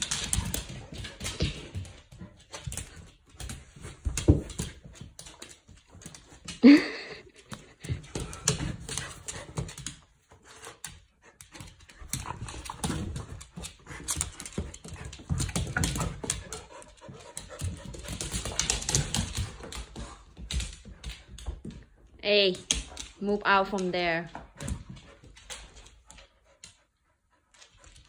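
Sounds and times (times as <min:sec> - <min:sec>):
claws clicking on hard floor: 0:00.0 - 0:23.2
dogs scuffling: 0:00.0 - 0:26.8.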